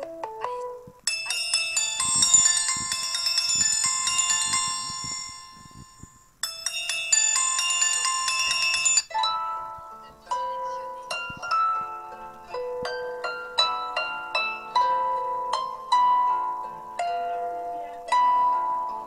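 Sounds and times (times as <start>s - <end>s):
plucked ringtone melody: 0.0s - 19.0s
bell-like ringtone melody: 0.4s - 19.0s.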